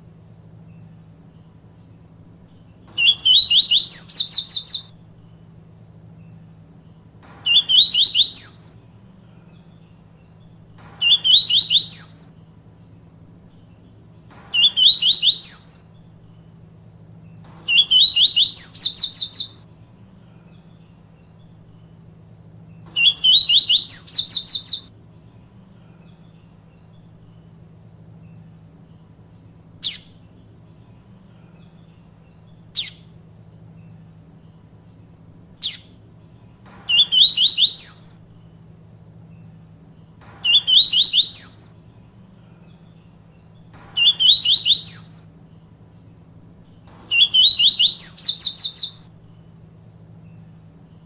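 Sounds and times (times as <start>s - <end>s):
bird singing with high trill: 0.0s - 51.0s
steady low hum: 0.0s - 51.0s.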